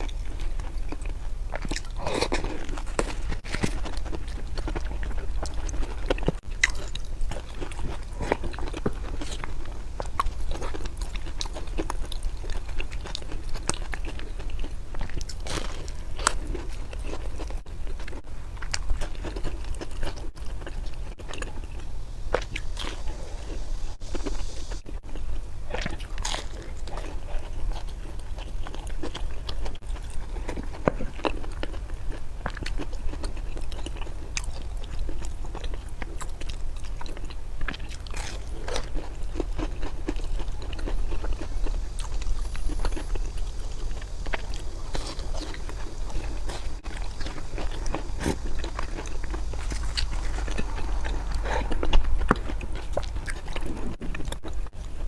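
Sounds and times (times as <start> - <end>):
crunchy chewing of food: 0.0 - 55.0.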